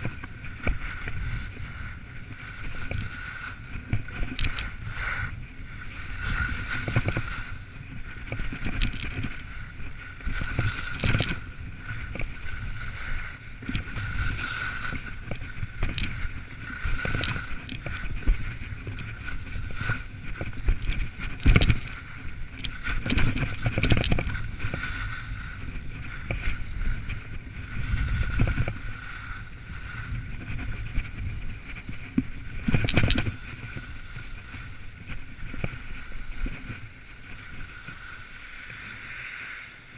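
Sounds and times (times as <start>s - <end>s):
ski edges scraping on snow: 0.0s - 39.9s
wind over microphone: 0.0s - 39.9s.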